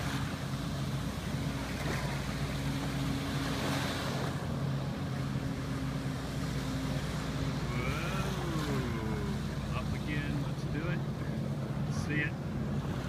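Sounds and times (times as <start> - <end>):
surf lapping: 0.0 - 13.0
watercraft engine humming: 0.0 - 13.0
wind: 0.0 - 13.0.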